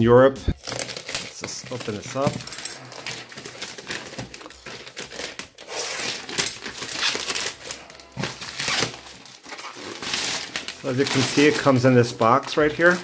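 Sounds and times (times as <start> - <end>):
plastic mailer bag crinkling and tearing: 0.5 - 13.0.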